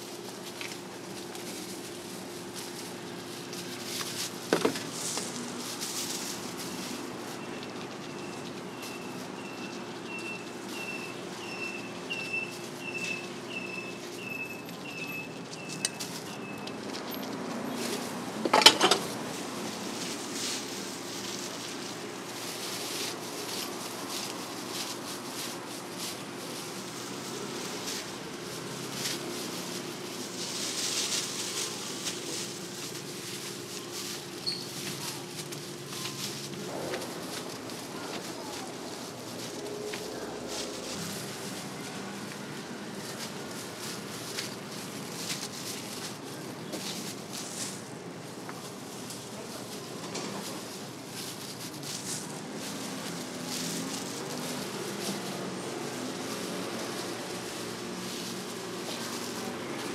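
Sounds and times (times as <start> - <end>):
gloved hands rustling: 0.0 - 9.2, 17.3 - 59.9.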